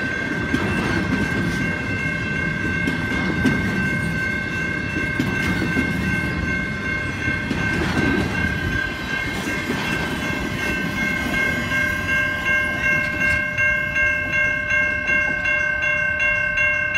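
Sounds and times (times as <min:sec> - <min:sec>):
crossing bell ringing: 0:00.0 - 0:16.9
train cars rumbling and clattering: 0:00.0 - 0:16.9.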